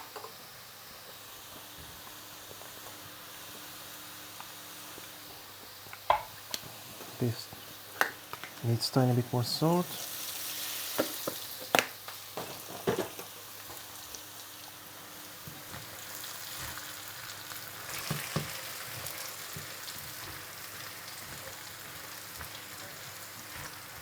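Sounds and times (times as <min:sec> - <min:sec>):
potatoes sizzling in hot oil: 0:00.0 - 0:24.0.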